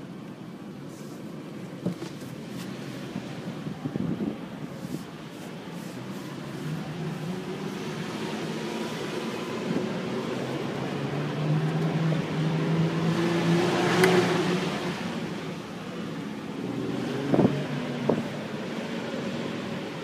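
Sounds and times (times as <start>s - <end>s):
car engine from inside cabin: 0.0s - 20.0s.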